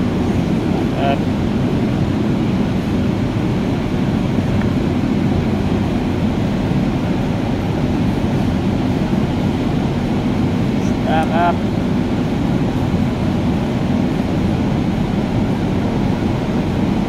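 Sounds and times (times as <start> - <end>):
loud low background rumble: 0.0 - 17.0.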